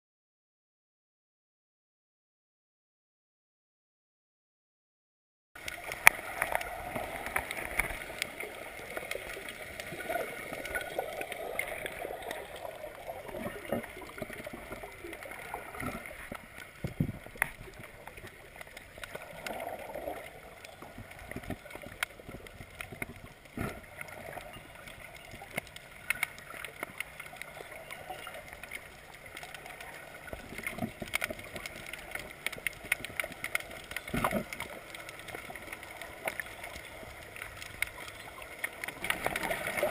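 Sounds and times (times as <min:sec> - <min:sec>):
water gurgling underwater: 0:05.6 - 0:39.9.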